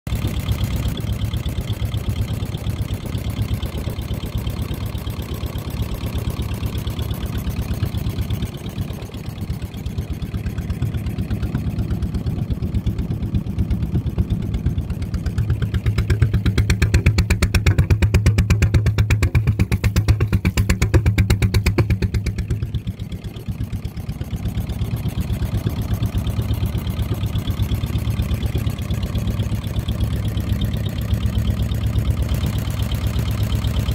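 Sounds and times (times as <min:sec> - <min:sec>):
motorboat engine running: 0:00.0 - 0:33.9.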